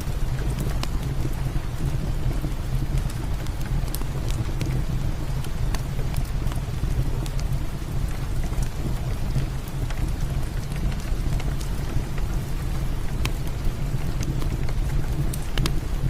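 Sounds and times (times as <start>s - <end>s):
heavy rain falling: 0.0s - 16.0s
wood fire popping and crackling: 0.0s - 16.0s.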